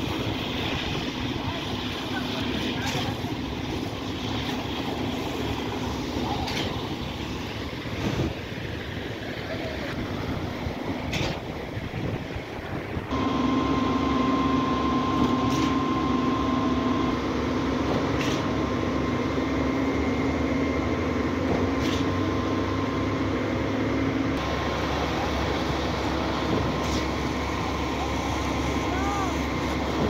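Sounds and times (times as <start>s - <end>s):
concrete pump droning: 0.0s - 30.0s.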